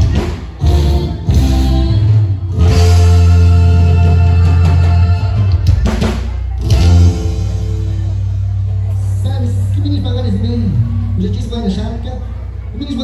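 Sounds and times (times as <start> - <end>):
loud band music: 0.0 - 13.0.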